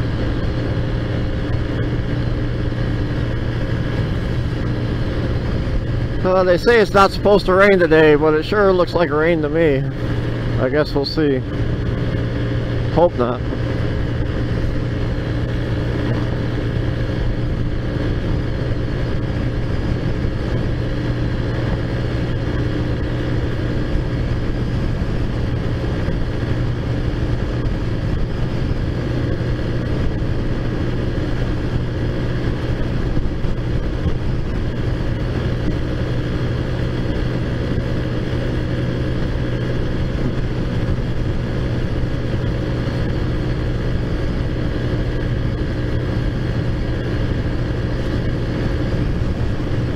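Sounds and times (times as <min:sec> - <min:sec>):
moped engine running: 0:00.0 - 0:49.9.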